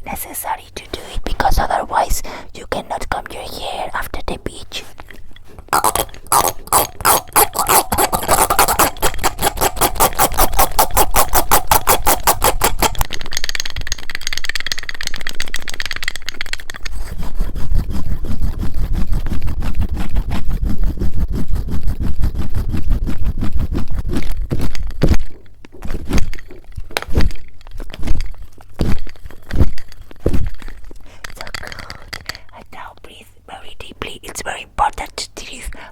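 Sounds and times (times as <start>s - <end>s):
brush scraping on microphone: 3.7s - 13.8s, 15.1s - 35.6s.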